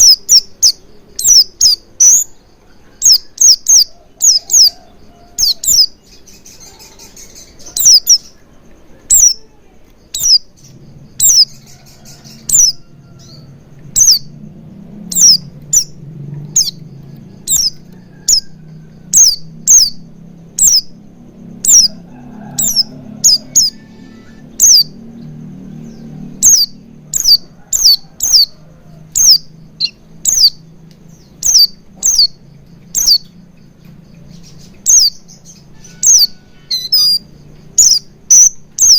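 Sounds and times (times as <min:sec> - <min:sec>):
bird chirping sharply: 0:00.0 - 0:38.9.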